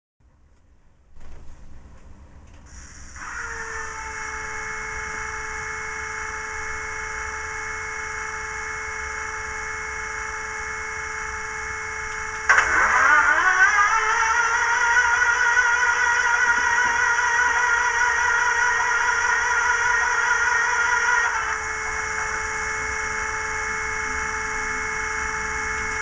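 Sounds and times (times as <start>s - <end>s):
fuel pump whine: 2.5s - 26.0s
diesel engine turning over: 2.7s - 26.0s.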